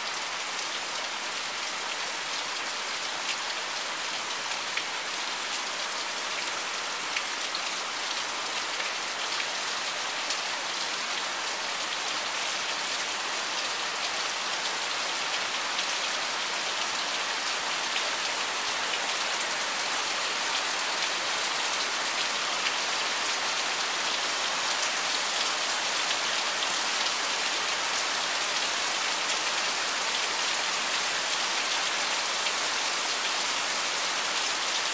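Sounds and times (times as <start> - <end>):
heavy rain on a tiled roof: 0.0 - 34.9.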